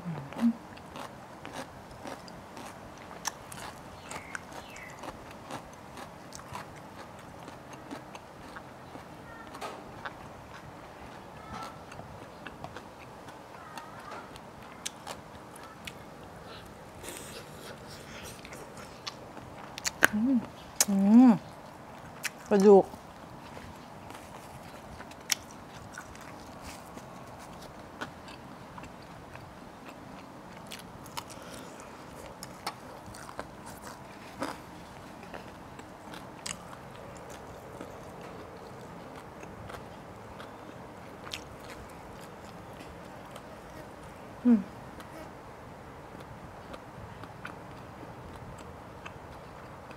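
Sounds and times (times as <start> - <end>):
crunchy chewing of fried chicken: 0.0 - 49.9
steady low hiss: 0.0 - 49.9.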